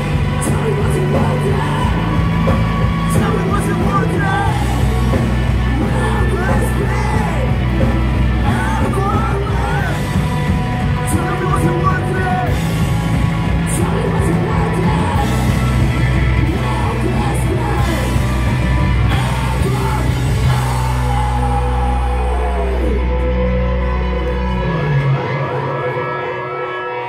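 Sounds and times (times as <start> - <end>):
bass guitar: 0.0 - 27.0
distorted electric guitars: 0.0 - 27.0
drums: 0.0 - 27.0
yelled and sung vocals: 0.0 - 27.0.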